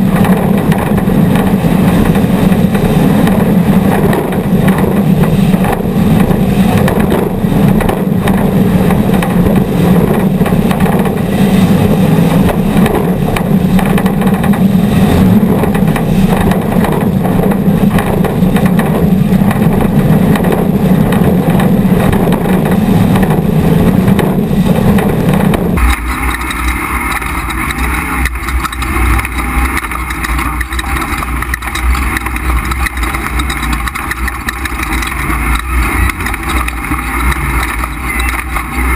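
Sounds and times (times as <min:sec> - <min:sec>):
deep engine rumble: 0:00.0 - 0:38.9
race truck engines at speed: 0:00.0 - 0:38.9.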